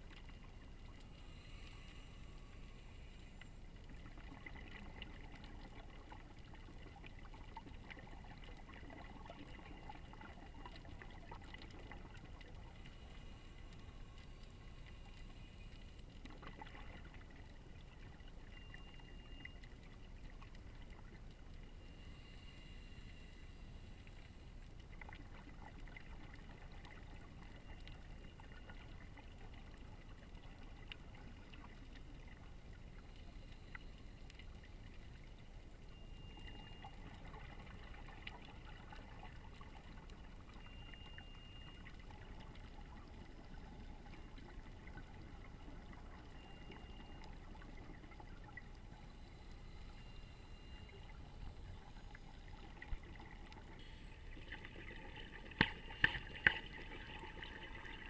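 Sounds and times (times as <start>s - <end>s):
faint high tones: 0.0s - 58.0s
small clicks and crackles: 0.0s - 58.0s
underwater low rumble: 0.0s - 58.0s.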